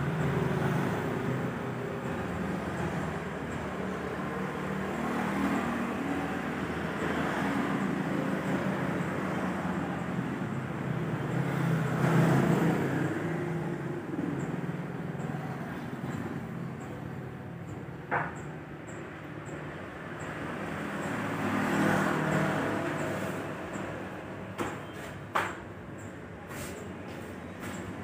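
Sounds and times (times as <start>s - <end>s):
traffic engine hum: 0.0s - 28.0s.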